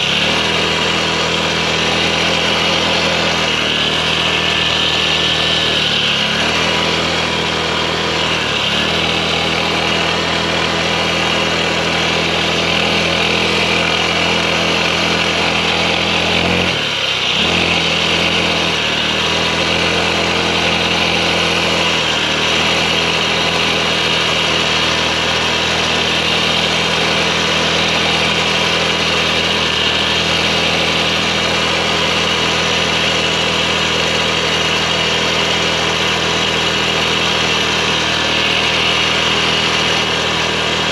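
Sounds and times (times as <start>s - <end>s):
small bike engine running: 0.0s - 40.9s.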